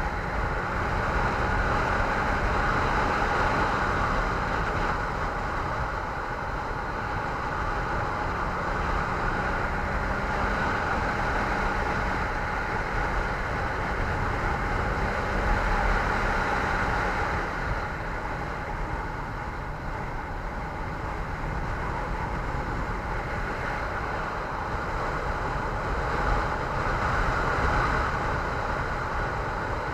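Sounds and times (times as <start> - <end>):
road noise: 0.0 - 29.9.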